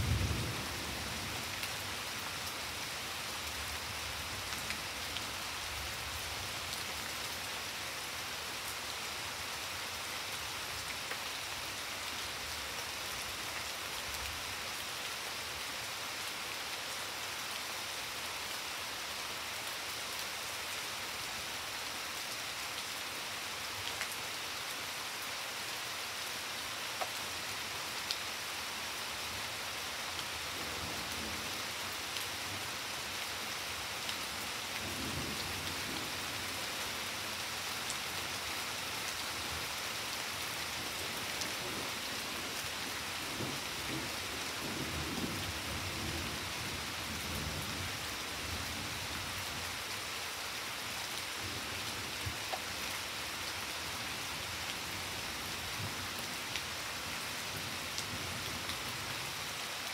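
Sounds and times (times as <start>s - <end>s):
rain on foliage and paving: 0.0s - 59.9s.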